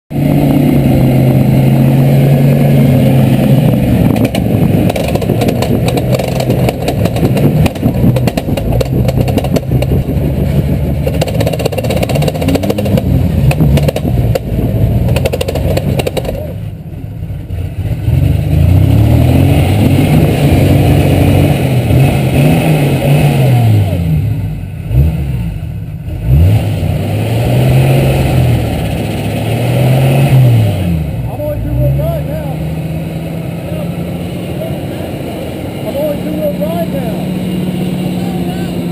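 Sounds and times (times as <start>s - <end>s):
tires scrabbling in mud: 0.1s - 16.7s, 17.5s - 24.2s, 26.1s - 38.9s
truck engine revving hard: 0.1s - 16.8s, 17.4s - 38.9s.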